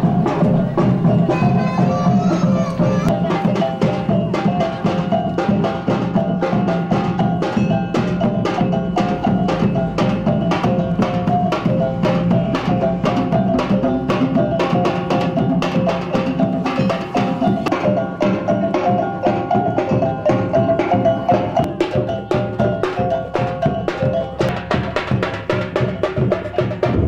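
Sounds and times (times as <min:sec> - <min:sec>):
steady drumming: 0:00.0 - 0:27.0.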